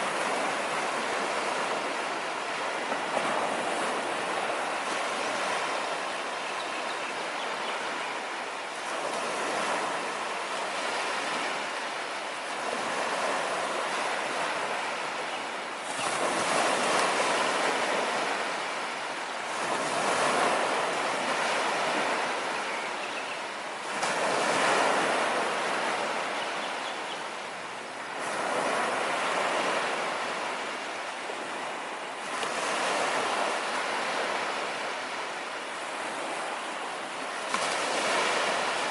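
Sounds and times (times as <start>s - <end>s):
waves breaking on sandy beach: 0.0s - 38.9s.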